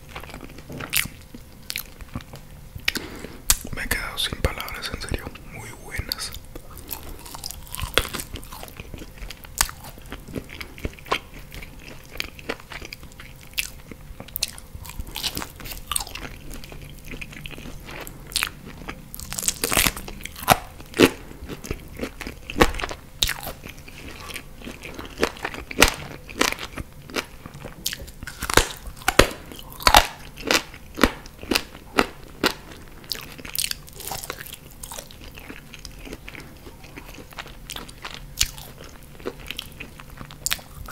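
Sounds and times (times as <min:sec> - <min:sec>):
chewing with crunches: 0:00.0 - 0:40.9.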